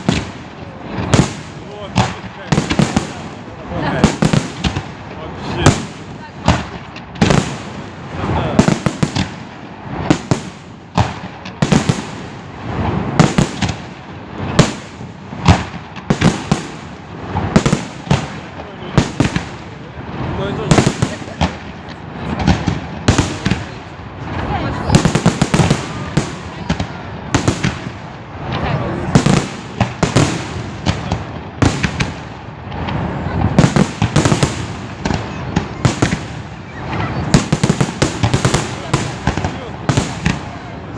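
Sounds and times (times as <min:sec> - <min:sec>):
fireworks bursting: 0:00.0 - 0:40.9
fireworks crackling: 0:00.0 - 0:40.9.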